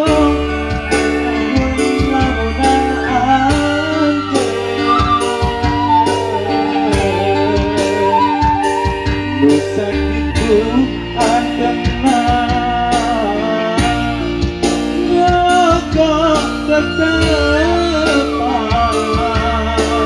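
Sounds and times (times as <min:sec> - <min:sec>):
bass: 0:00.0 - 0:20.0
keyboard: 0:00.0 - 0:20.0
live pop band music: 0:00.0 - 0:20.0
ornamented melody line: 0:00.0 - 0:20.0
steady drum beat: 0:00.0 - 0:20.0.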